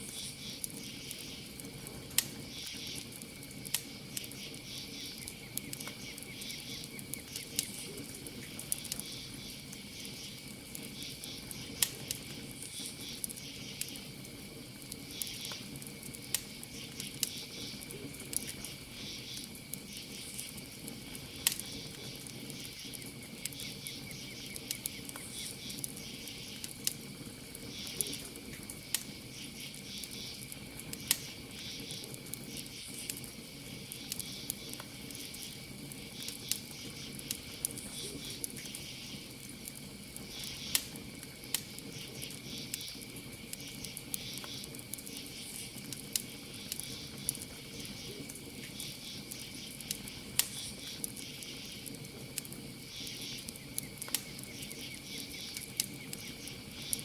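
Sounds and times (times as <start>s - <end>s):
campfire crackling: 0.0s - 57.0s
night insects chorus: 0.0s - 57.0s.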